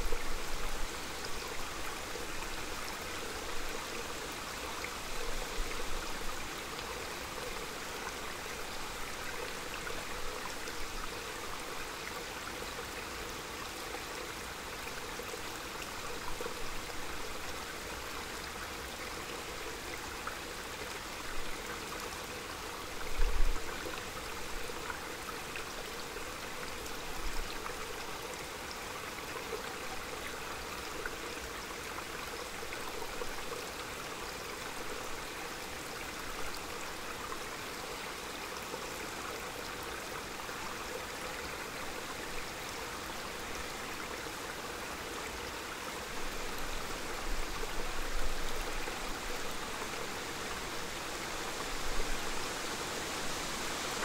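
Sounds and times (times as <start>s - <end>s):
stream trickling: 0.0s - 54.0s.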